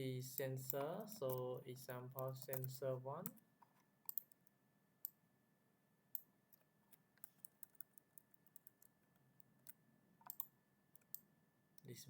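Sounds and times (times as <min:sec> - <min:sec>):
computer mouse clicks: 0:00.4 - 0:01.4, 0:02.2 - 0:05.2, 0:06.1 - 0:12.0.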